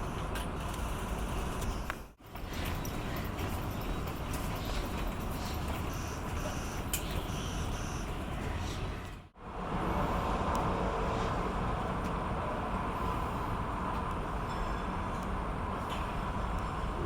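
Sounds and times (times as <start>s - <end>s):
city traffic din: 0.0s - 17.0s.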